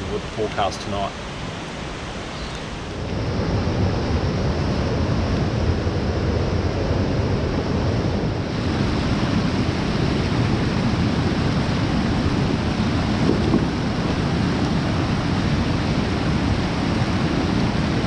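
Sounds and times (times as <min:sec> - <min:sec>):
loud outdoor rushing noise: 0:00.0 - 0:18.0.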